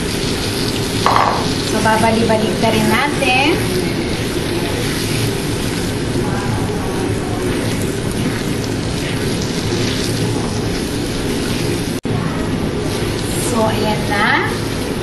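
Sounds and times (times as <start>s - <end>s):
liver sizzling in a pan: 0.0s - 12.0s, 12.7s - 15.0s.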